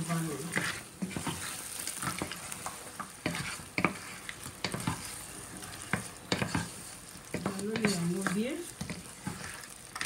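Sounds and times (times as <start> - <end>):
food sizzling in oil: 0.0 - 10.0
wooden spoon scraping pot: 0.0 - 10.0.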